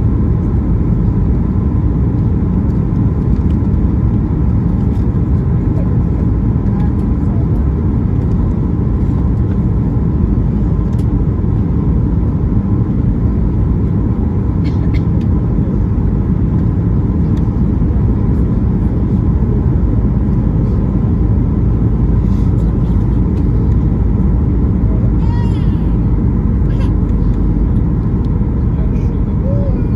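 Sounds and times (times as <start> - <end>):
airliner cabin rumble: 0.0 - 29.9.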